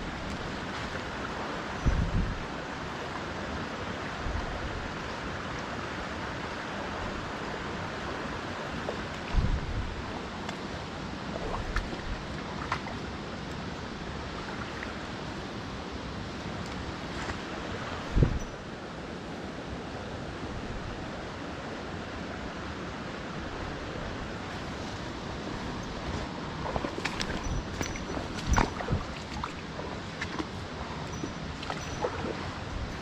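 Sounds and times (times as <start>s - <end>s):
stream water flowing: 0.0s - 33.0s.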